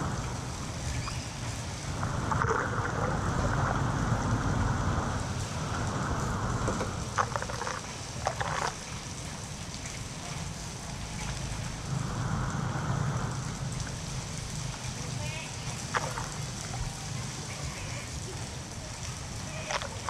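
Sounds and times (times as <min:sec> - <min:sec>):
floodwater rushing and splashing: 0:00.0 - 0:20.0.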